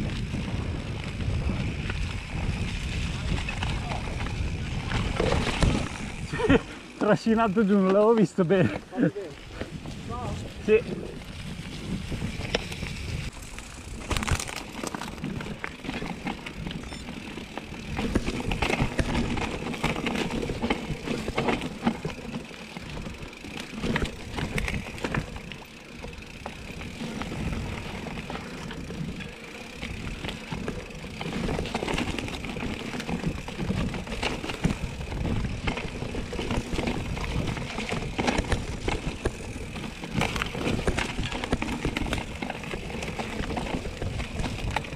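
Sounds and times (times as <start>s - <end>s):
bicycle rattling over bumps: 0.0s - 44.9s
bicycle tyres on dirt and stones: 0.0s - 44.9s.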